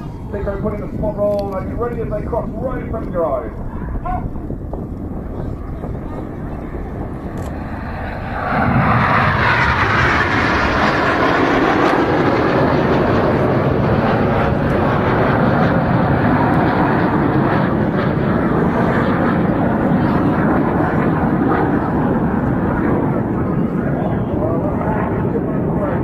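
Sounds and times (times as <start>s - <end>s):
jets passing low: 0.0s - 26.0s.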